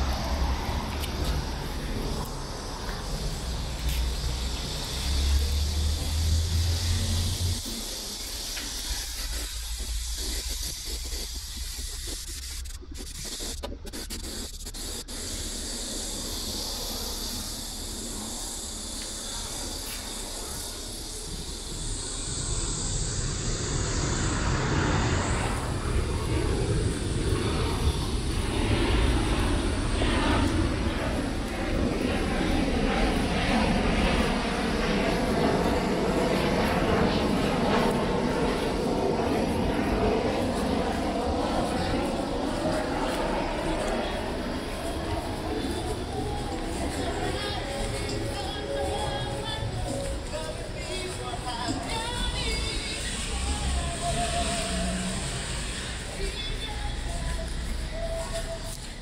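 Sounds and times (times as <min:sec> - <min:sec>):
outdoor hiss: 0:00.0 - 0:32.0, 0:40.2 - 0:59.0.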